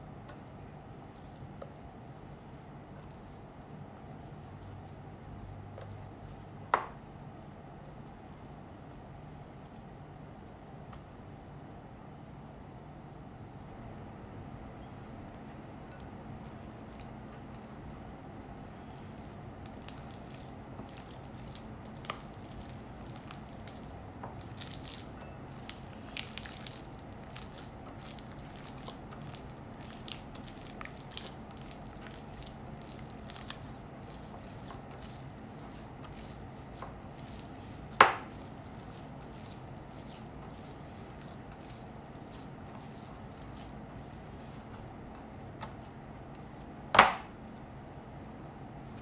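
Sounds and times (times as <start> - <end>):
dough squishing and slapping: 0.0 - 12.4, 15.9 - 47.7
steady low hum: 0.0 - 49.0.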